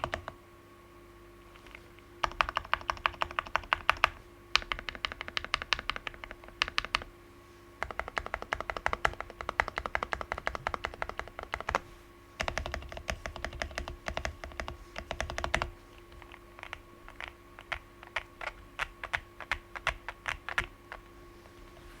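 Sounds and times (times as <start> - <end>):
mechanical keyboard typing: 0.0 - 0.4, 1.7 - 7.1, 7.8 - 11.8, 12.4 - 21.0.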